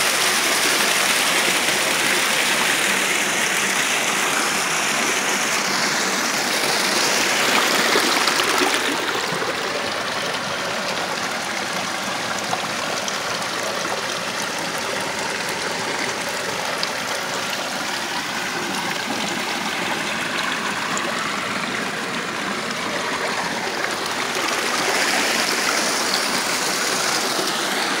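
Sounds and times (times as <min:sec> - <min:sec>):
water splashing over rocks: 0:00.0 - 0:28.0.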